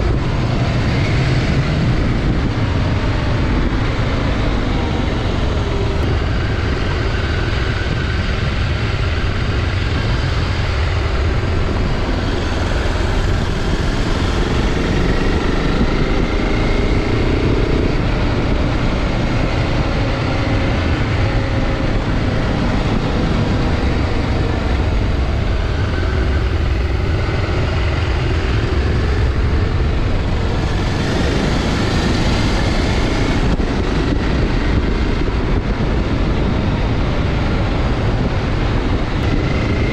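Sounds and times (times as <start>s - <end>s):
steady rush of noise: 0.0s - 39.9s.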